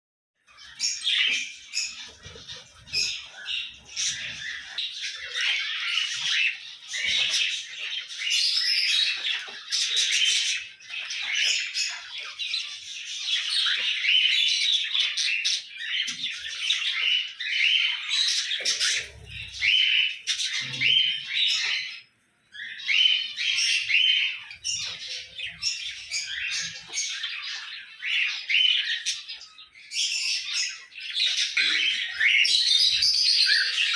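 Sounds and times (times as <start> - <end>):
cockatiels chirping and squawking: 0.4 - 33.9.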